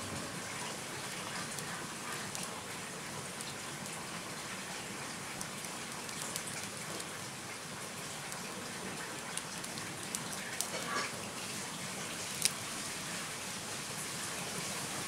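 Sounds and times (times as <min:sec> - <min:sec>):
wood fire crackling and popping: 0:00.1 - 0:13.0.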